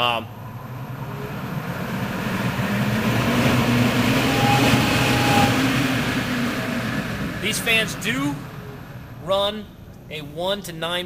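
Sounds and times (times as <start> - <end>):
fan humming and rushing air: 0.0 - 11.0.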